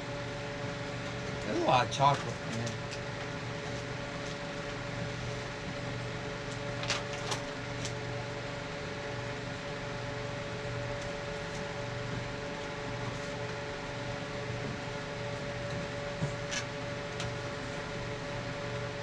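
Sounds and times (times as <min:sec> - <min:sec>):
mechanical room hum: 0:00.0 - 0:19.0.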